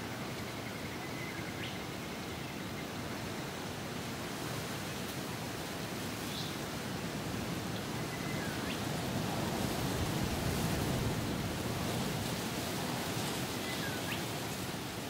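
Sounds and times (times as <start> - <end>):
strong wind through vegetation: 0.0 - 15.0.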